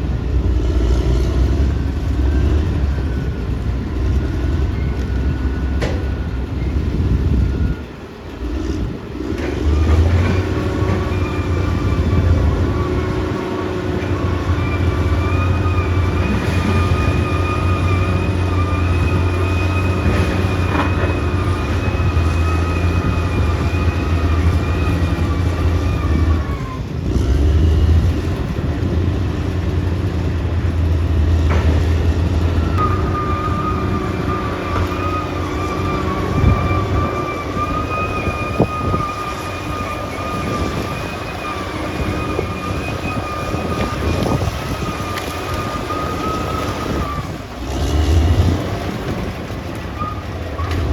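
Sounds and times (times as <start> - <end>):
bulldozer diesel engine drone: 0.0 - 50.9.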